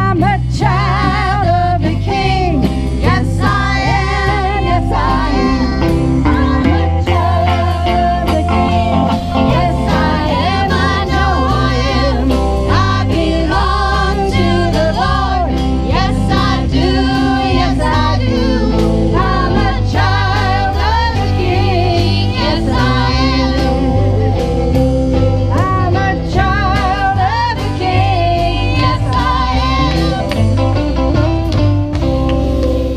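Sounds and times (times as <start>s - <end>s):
several voices singing: 0.0s - 30.9s
country gospel band playing: 0.0s - 32.9s
drums: 0.0s - 32.9s
guitars: 0.0s - 32.9s
steady bass: 0.0s - 32.9s.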